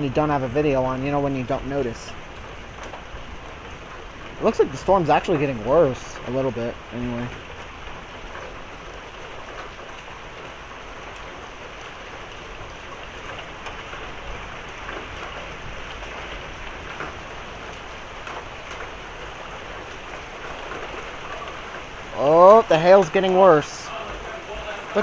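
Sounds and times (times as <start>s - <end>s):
hailstones ticking on surfaces: 0.0s - 25.0s
heavy rain falling: 0.0s - 25.0s.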